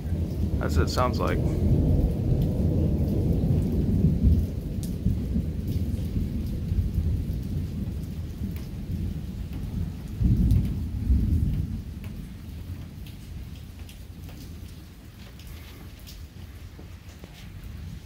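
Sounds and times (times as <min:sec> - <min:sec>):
raindrop ticks: 0:00.0 - 0:18.0
thunder rumbling: 0:00.0 - 0:18.0.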